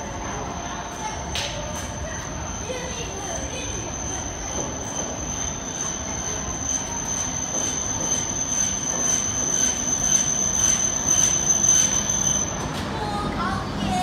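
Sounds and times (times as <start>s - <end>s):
high-pitched whine: 0.0s - 14.0s
train running noise: 0.0s - 14.0s.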